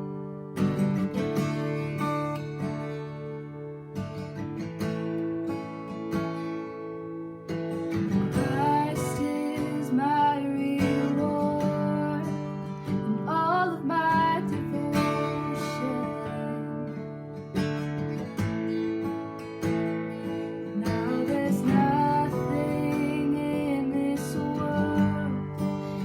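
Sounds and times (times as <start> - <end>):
strummed acoustic guitar: 0.0 - 26.0.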